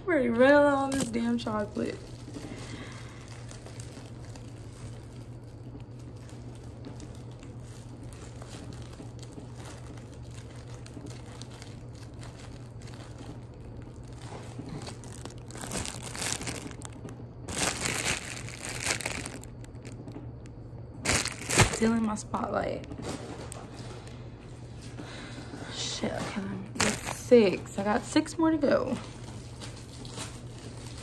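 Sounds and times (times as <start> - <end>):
steady low hum: 0.0 - 31.0
plastic bag crinkling: 0.3 - 24.2, 26.7 - 28.1, 28.8 - 31.0.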